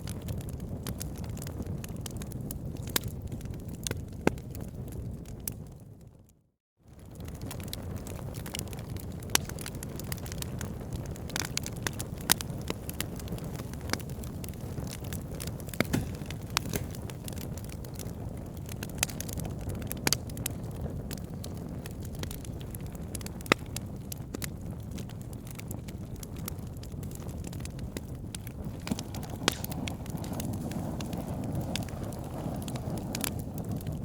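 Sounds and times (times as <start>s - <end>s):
logs crackling and popping: 0.0s - 6.0s, 6.9s - 34.0s
wood fire rumbling: 0.0s - 6.0s, 6.9s - 34.0s.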